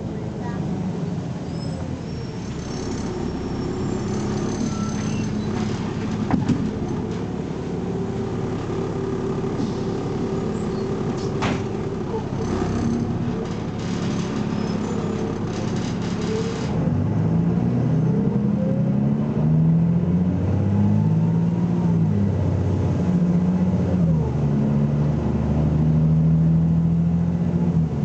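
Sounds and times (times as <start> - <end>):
bus diesel engine accelerating: 0.0 - 28.0.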